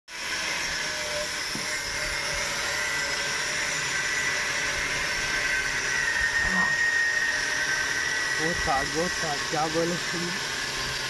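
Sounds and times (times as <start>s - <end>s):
electric motor whining: 0.1s - 11.0s.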